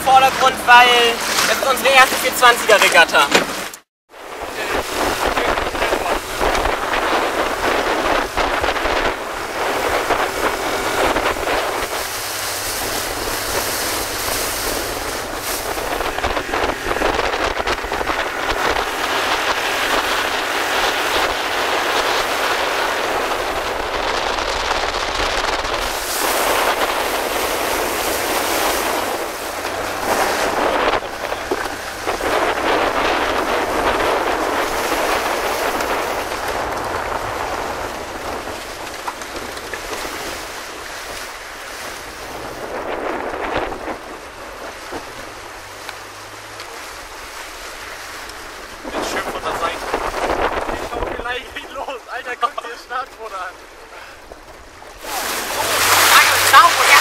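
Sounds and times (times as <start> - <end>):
water sloshing: 0.0 - 57.0
wind buffeting microphone: 3.5 - 57.0.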